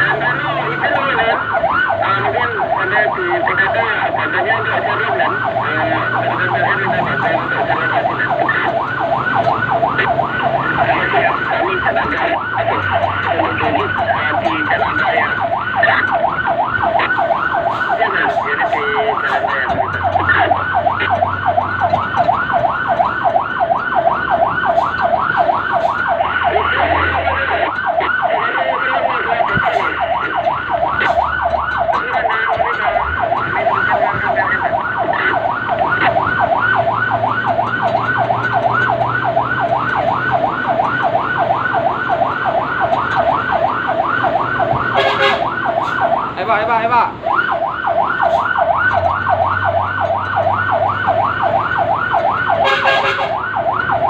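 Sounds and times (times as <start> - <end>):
fire engine siren yelping: 0.0 - 54.0.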